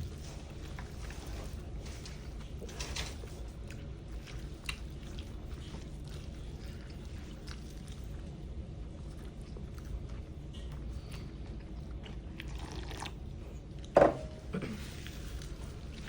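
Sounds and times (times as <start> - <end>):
chewing noodles: 0.0 - 16.0.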